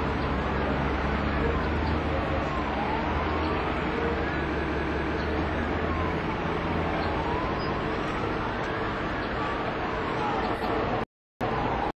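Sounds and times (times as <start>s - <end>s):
emergency vehicle siren wailing: 0.0s - 12.0s
street and traffic noise: 0.0s - 12.0s.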